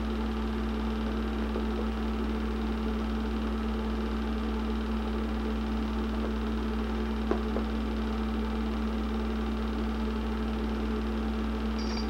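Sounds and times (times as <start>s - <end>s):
film projector motor hum: 0.0s - 12.0s.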